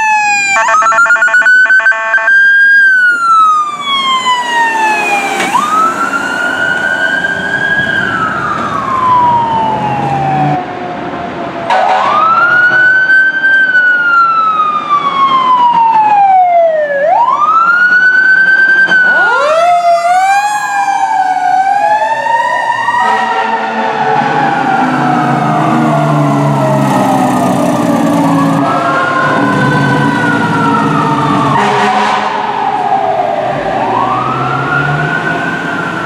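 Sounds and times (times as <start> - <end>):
siren cycling up and down fast: 0.0 - 10.6, 12.0 - 36.0
siren wailing up and down: 0.0 - 10.8, 11.7 - 36.0
siren in long slow rises: 0.0 - 36.0.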